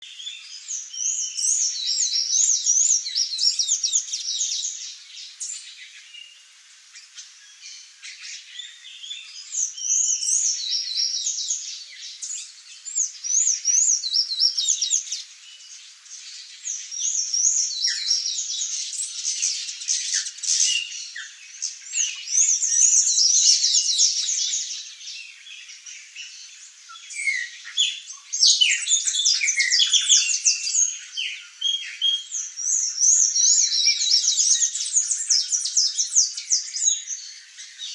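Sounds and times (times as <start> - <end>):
songbirds singing and twittering: 0.0 - 37.9.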